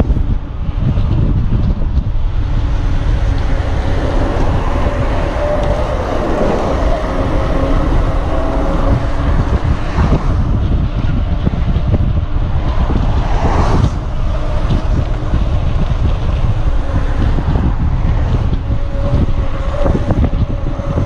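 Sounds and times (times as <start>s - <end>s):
low rumble of bike on road: 0.0s - 21.0s
wind buffeting microphone: 0.0s - 21.0s.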